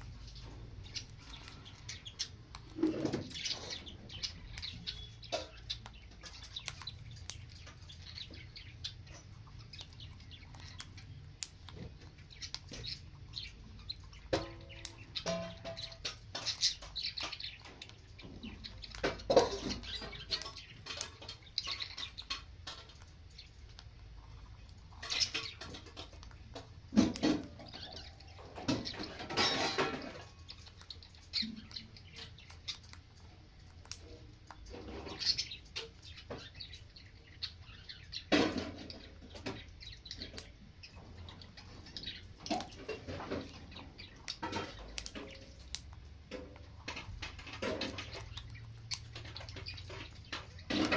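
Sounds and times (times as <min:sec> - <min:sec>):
parrot chirping: 0:00.0 - 0:50.9.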